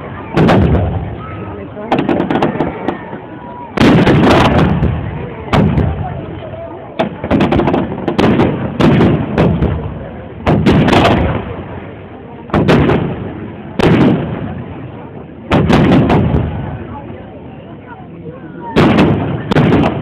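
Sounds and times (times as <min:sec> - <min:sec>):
fireworks bursting with loud bangs: 0:00.0 - 0:17.2, 0:18.6 - 0:20.0.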